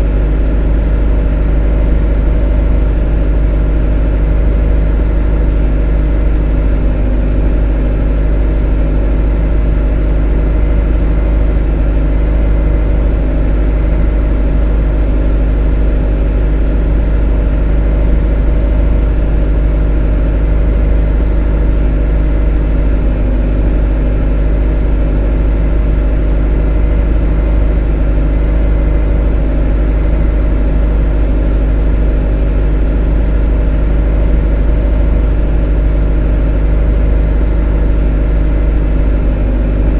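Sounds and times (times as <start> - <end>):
motor droning: 0.0 - 39.9.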